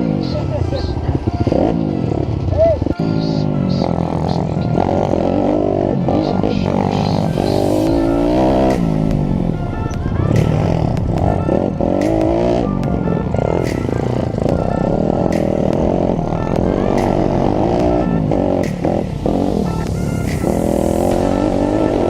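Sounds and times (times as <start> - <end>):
background music: 0.0 - 22.0
motorbike engine revving through gears: 1.0 - 22.0.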